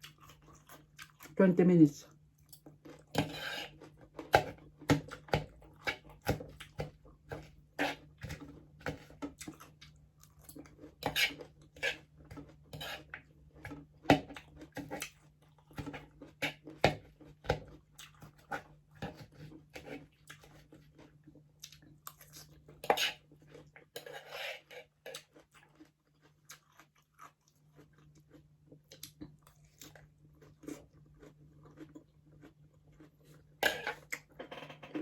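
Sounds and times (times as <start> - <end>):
chewing crispy food: 0.0 - 24.0, 24.6 - 35.0.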